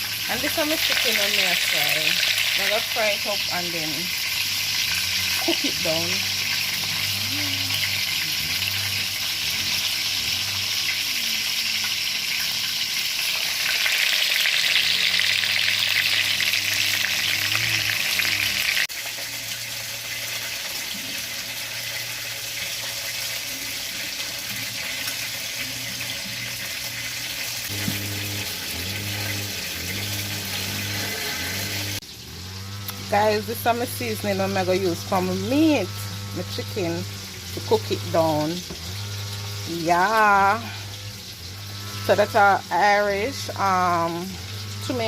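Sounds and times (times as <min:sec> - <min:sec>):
chicken frying in hot oil: 0:00.0 - 0:45.0.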